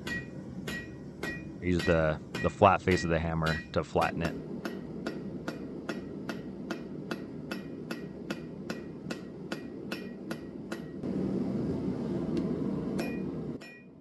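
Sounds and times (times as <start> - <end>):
hammer blows on hot steel: 0.0 - 11.4, 12.4 - 14.0.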